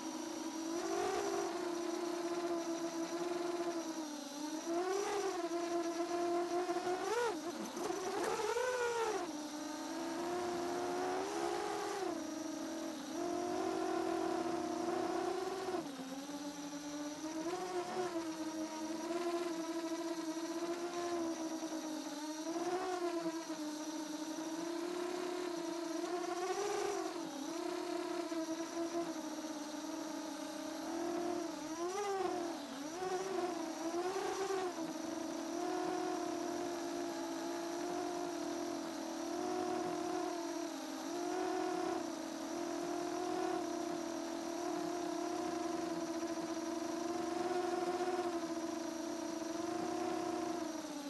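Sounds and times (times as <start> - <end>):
quadcopter motors whining: 0.0 - 51.0.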